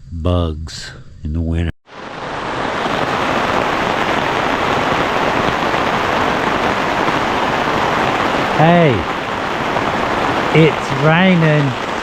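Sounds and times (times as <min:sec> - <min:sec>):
heavy rain pouring: 0:01.9 - 0:12.0.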